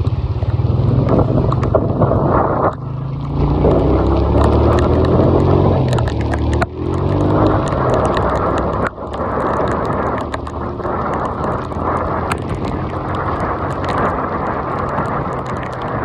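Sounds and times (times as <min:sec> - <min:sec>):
rain hitting phone microphone: 0:00.0 - 0:16.0.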